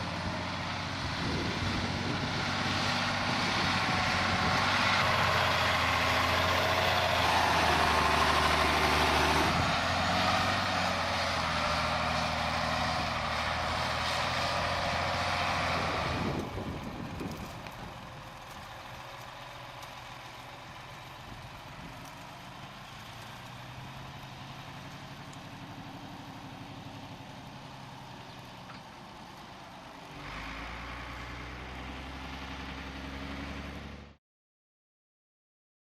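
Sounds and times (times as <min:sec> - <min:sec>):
diesel truck engine running: 0:00.0 - 0:34.2.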